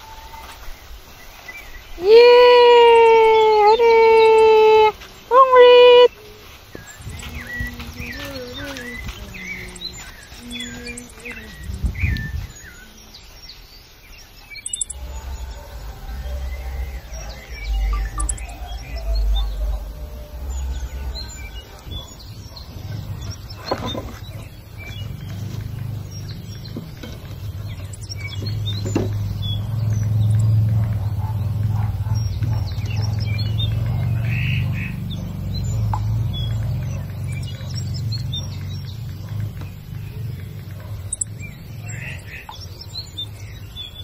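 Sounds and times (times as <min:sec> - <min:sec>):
small birds chirping: 0:00.0 - 0:44.0
low rumble: 0:06.2 - 0:13.4, 0:14.1 - 0:43.9.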